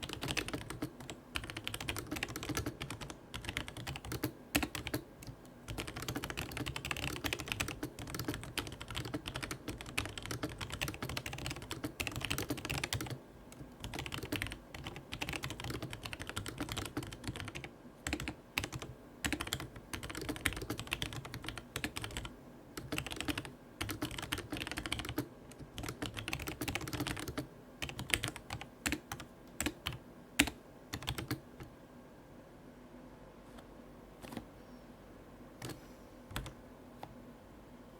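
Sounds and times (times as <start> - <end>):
mechanical keyboard typing: 0.0 - 31.5, 35.6 - 36.6.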